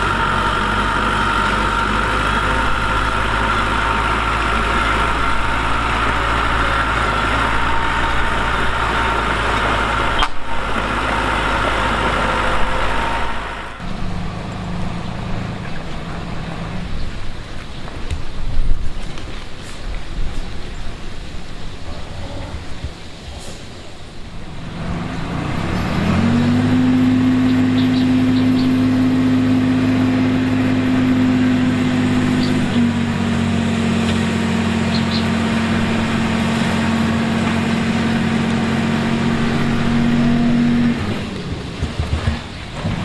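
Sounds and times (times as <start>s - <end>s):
diesel engine revving: 0.0s - 17.9s, 24.2s - 43.0s.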